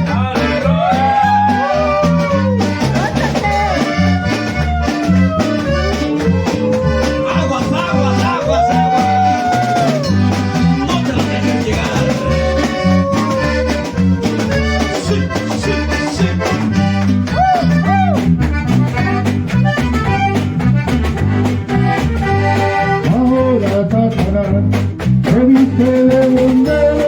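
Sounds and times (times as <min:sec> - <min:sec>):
accordion melody: 0:00.0 - 0:27.0
bass and drums: 0:00.0 - 0:27.0.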